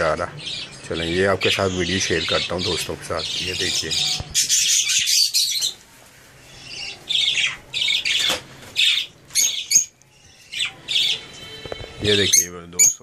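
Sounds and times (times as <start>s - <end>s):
lovebirds squawking: 0.0s - 5.8s, 6.4s - 13.0s.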